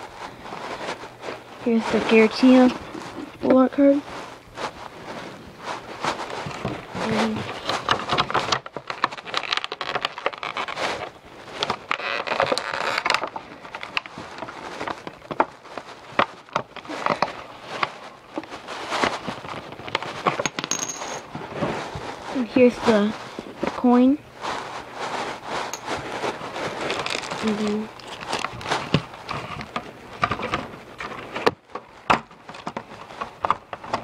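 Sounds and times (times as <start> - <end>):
packaging rustling: 0.0 - 34.0.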